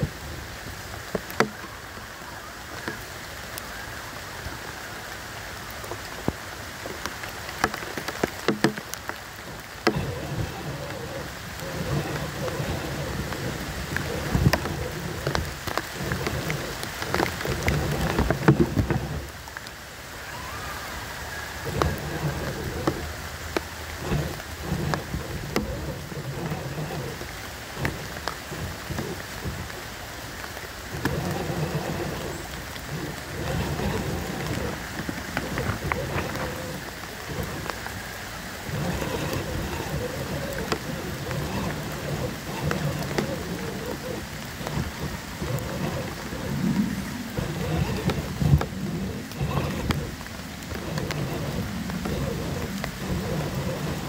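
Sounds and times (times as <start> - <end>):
tyres crackling on twigs and leaves: 0.0 - 54.0
electric motor and gears whining: 5.8 - 54.0.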